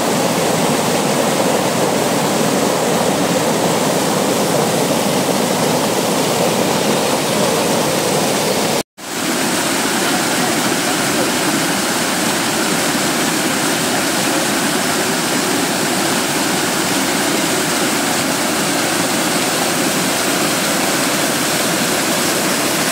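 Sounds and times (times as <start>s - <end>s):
waterfall rushing into pool: 0.0s - 22.9s.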